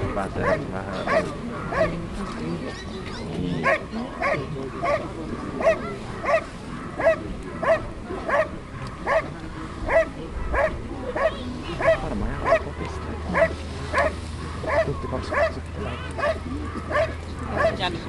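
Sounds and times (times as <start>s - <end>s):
dog barking: 0.3s - 2.0s, 3.6s - 17.8s.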